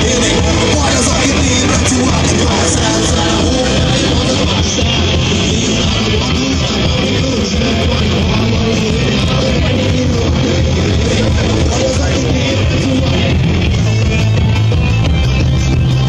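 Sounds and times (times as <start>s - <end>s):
punk rock band playing live: 0.0s - 16.0s.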